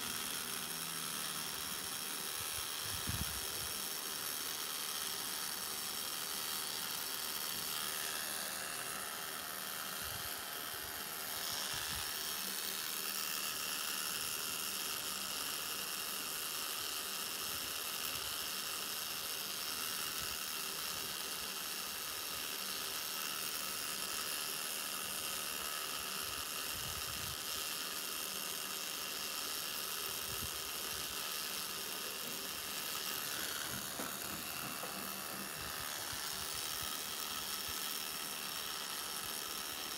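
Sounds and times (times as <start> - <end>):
tattoo machine humming: 0.0 - 39.9.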